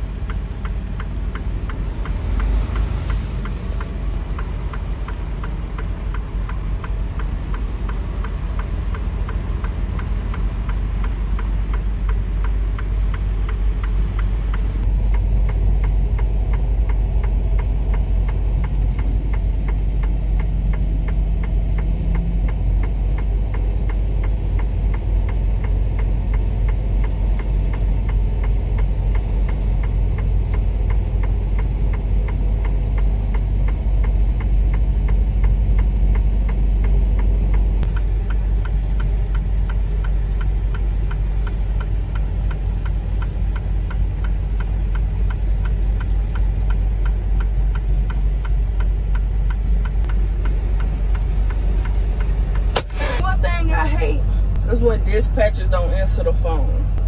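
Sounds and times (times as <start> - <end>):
diesel truck engine running: 0.0 - 57.0
steady ticking: 0.0 - 57.0.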